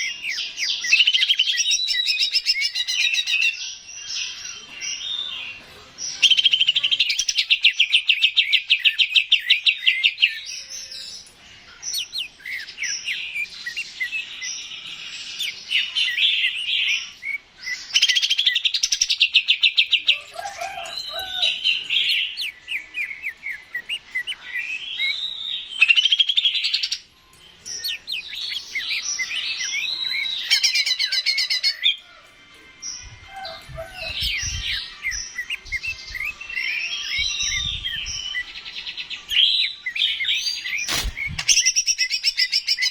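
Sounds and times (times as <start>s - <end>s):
bird singing trills and whistles: 0.0s - 32.0s, 32.8s - 42.9s.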